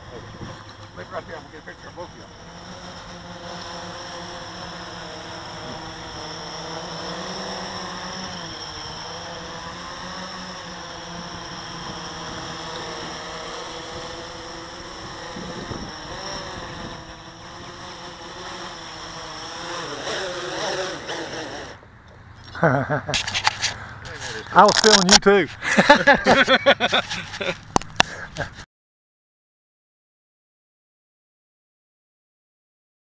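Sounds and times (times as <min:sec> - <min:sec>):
quadcopter motors whirring: 0:00.0 - 0:28.6.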